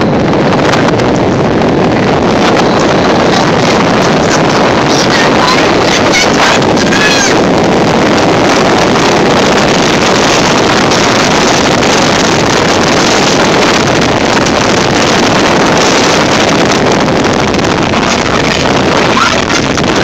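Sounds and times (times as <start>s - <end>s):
strong wind rushing: 0.0s - 20.0s.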